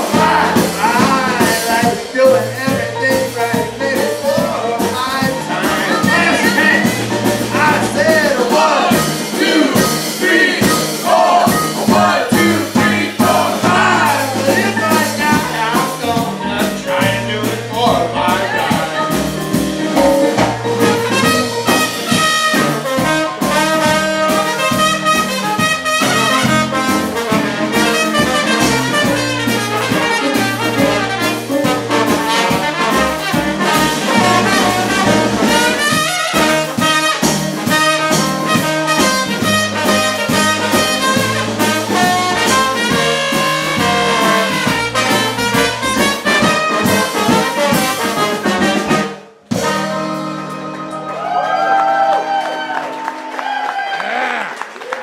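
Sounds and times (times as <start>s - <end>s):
trombone: 0.0s - 51.0s
trumpet: 0.0s - 53.4s
live jazz band playing: 0.0s - 54.0s.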